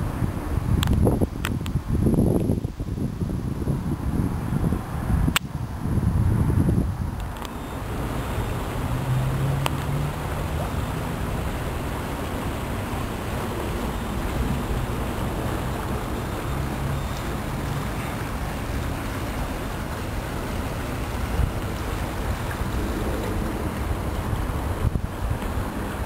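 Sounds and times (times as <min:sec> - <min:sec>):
stream rushing over stones: 0:00.0 - 0:26.0
wind on microphone: 0:00.0 - 0:26.0.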